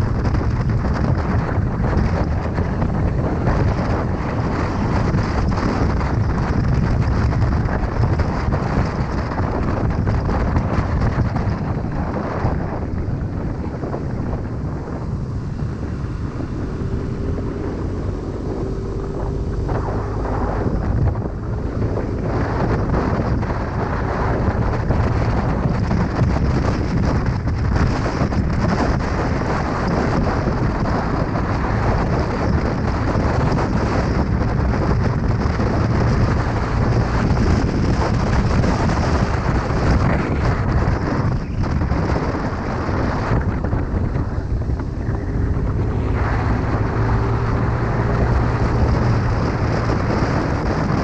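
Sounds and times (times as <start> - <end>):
engine and road rumble: 0.0 - 51.0
motorcycle riding at speed: 0.0 - 51.0
wind buffeting microphone: 0.0 - 51.0.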